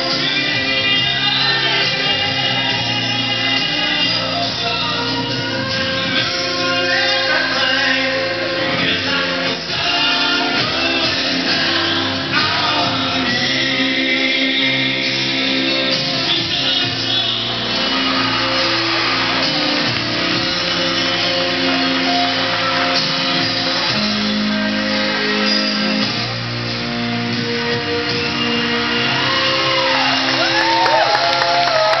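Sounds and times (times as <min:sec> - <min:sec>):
live guitar music: 0:00.0 - 0:32.0.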